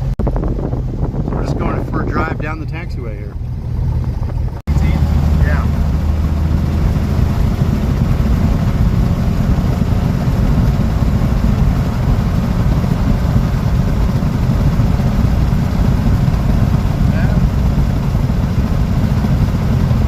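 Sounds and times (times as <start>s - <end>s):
propeller plane engine humming: 0.0s - 20.0s.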